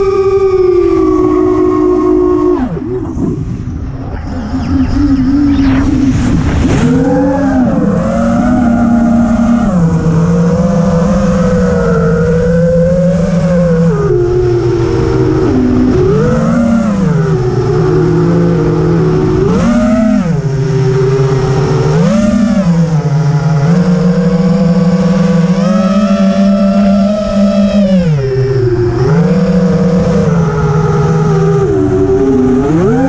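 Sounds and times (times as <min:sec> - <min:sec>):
quadcopter motors whining: 0:00.0 - 0:33.0.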